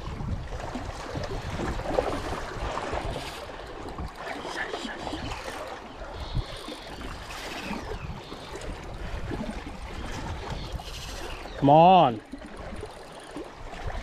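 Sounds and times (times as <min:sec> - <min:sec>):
wind rumbling on microphone: 0:00.0 - 0:11.6.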